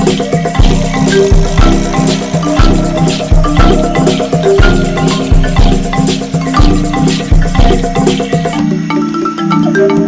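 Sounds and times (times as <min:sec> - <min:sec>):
music with deep bass beat: 0:00.0 - 0:10.0.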